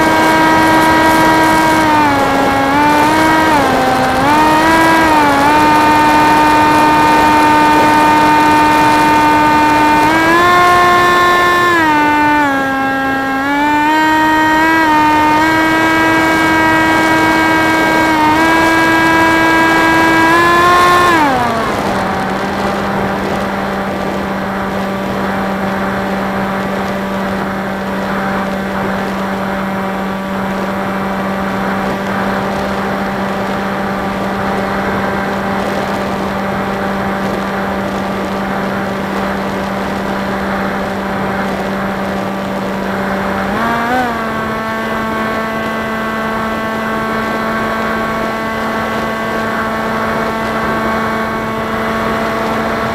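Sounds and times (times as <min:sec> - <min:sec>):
electric motor and propeller whine: 0:00.0 - 0:52.9.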